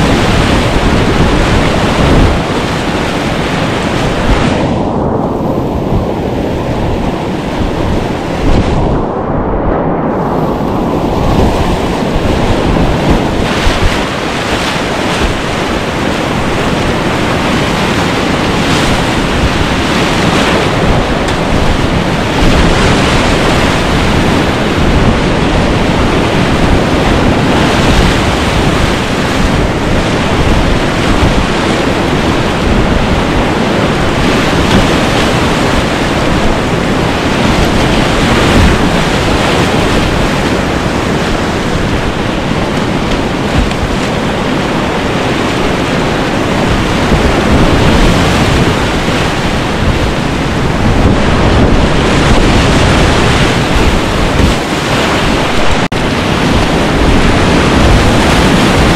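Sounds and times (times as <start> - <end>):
whitewater rapids rushing: 11.2 - 58.9.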